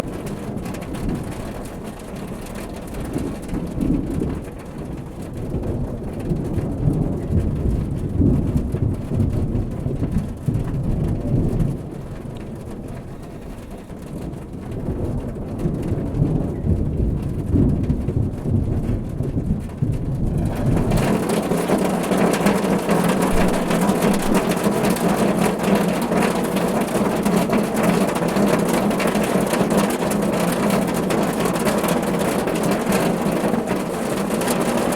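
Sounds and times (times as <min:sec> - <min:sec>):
low rolling thunder: 0:00.0 - 0:13.1, 0:13.9 - 0:34.9
light rain: 0:00.0 - 0:34.9
rain drumming on a car roof: 0:00.0 - 0:34.9.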